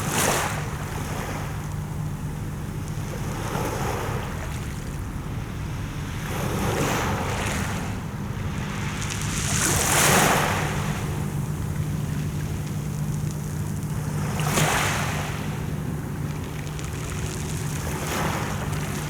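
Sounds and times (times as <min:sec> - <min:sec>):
sea waves washing ashore: 0:00.0 - 0:19.0.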